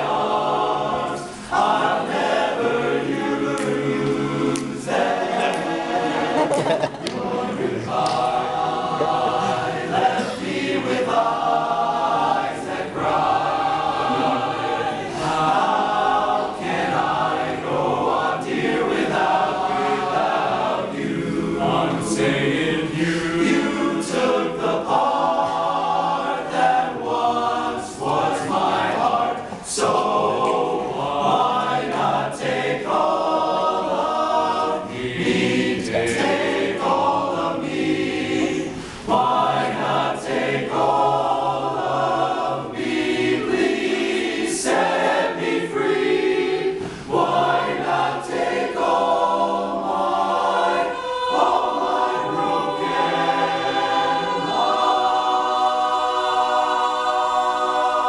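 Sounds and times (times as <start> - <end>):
male chorus singing a cappella: 0.0 - 58.0.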